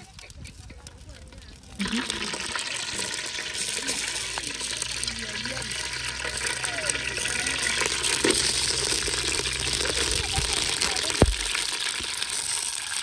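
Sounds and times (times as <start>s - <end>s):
rain hissing: 0.0s - 13.0s
oil sizzling in a pot: 1.7s - 13.0s.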